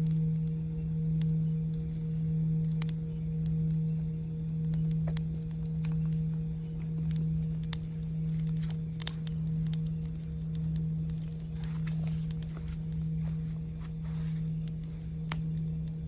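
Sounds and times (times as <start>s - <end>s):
campfire crackling: 0.0s - 16.0s
singing bowl tone: 0.0s - 16.0s.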